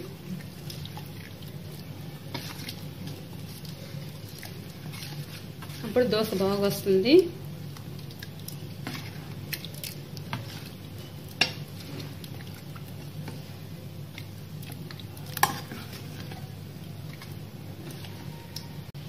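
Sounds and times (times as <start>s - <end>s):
ladle stirring wet batter: 0.0s - 18.9s.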